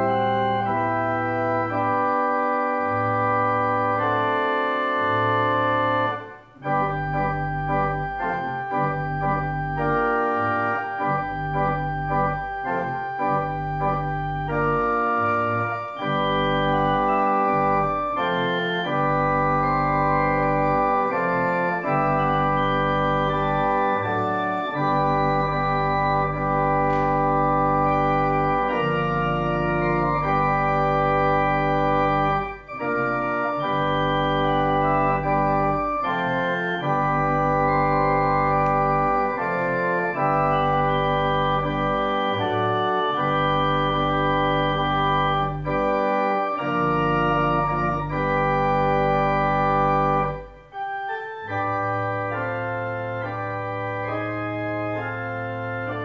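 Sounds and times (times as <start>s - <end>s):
organ playing sustained chords: 0.0s - 56.0s.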